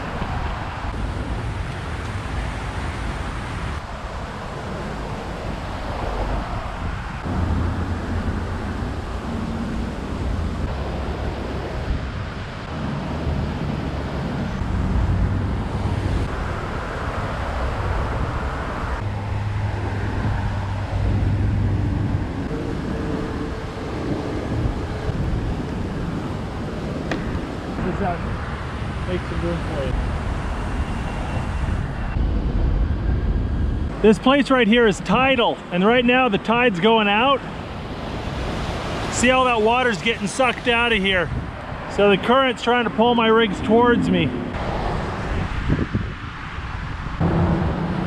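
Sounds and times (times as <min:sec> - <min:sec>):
wind buffeting microphone: 0:00.0 - 0:36.5, 0:37.4 - 0:48.0
road traffic rumble: 0:00.0 - 0:48.0.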